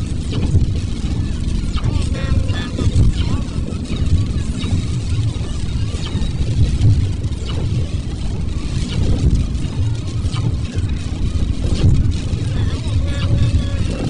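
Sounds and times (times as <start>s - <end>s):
car engine and road rumble: 0.0s - 14.0s
faint rain hiss: 0.0s - 14.0s.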